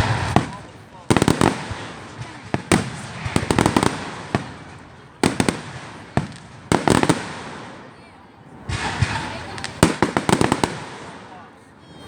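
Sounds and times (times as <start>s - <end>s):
fireworks banging: 0.0s - 7.9s, 8.5s - 11.5s
fireworks crackling pops: 0.0s - 7.9s, 8.6s - 11.5s.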